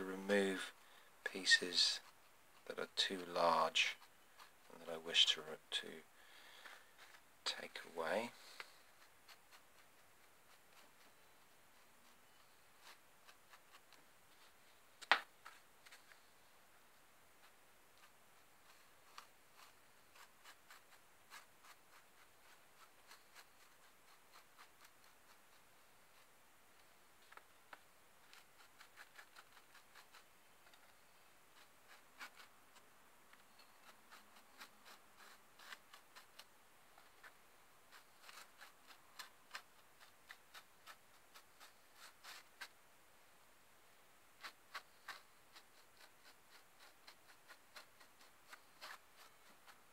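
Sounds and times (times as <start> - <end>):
paintbrush dabbing glue: 0.1 - 16.3, 17.4 - 26.4, 27.3 - 42.8, 44.4 - 49.9.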